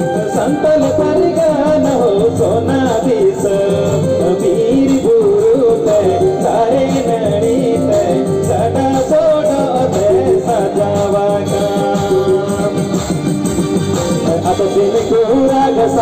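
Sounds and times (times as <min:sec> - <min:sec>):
amplified backing music with beat: 0:00.0 - 0:16.0
man singing into microphone: 0:00.0 - 0:16.0.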